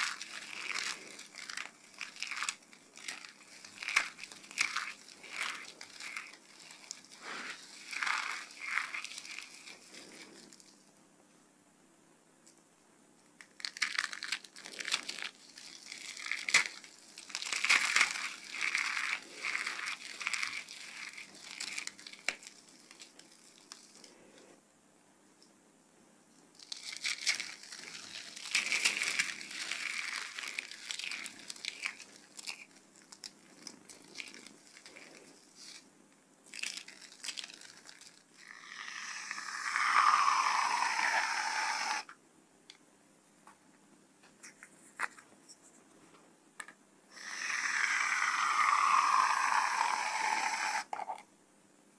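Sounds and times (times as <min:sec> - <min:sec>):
crunching dried soap by hand: 0:00.0 - 0:10.8, 0:13.3 - 0:24.6, 0:26.4 - 0:42.1, 0:47.1 - 0:51.2.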